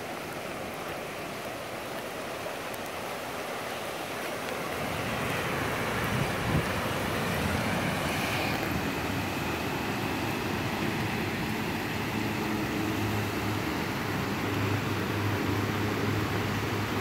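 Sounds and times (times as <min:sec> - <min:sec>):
floodwater rushing through channel: 0:00.0 - 0:17.0.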